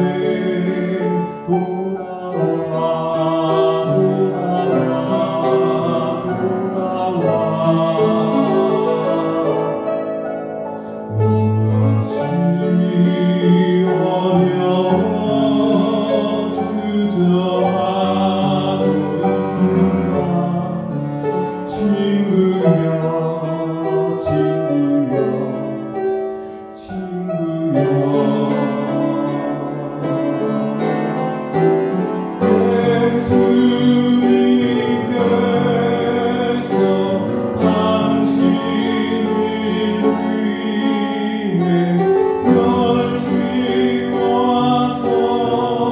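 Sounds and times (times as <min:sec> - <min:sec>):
man singing: 0:00.0 - 0:10.4, 0:11.2 - 0:26.0, 0:26.7 - 0:45.9
upright piano playing a hymn: 0:00.0 - 0:45.9.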